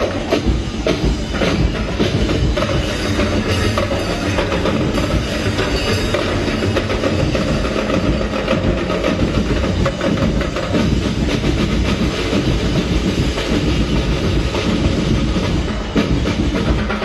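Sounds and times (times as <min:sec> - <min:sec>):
percussion-driven music: 0:00.0 - 0:17.0.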